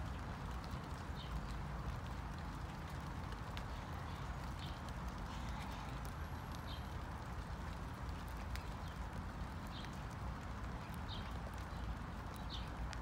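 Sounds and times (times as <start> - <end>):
rain drops tapping: 0.0 - 13.0
steady rain hiss: 0.0 - 13.0.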